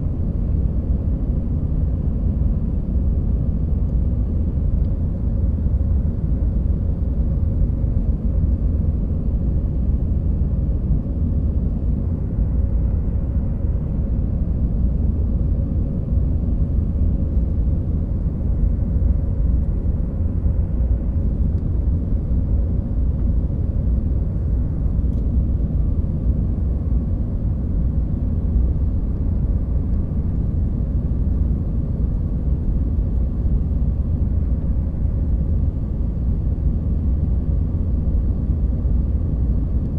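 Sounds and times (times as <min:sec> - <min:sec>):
faint steady hum: 0:00.0 - 0:39.9
jet engines and airflow rumble: 0:00.0 - 0:39.9.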